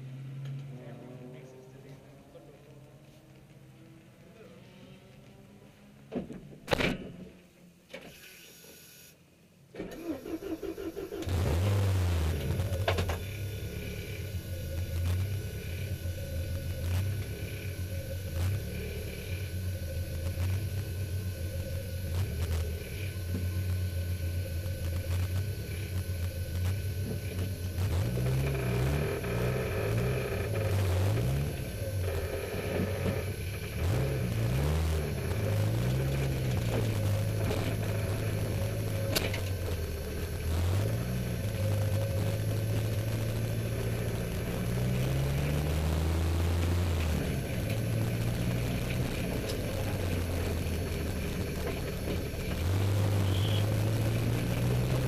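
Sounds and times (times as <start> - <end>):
car engine idling: 9.9 - 55.0
car engine revving: 9.9 - 55.0.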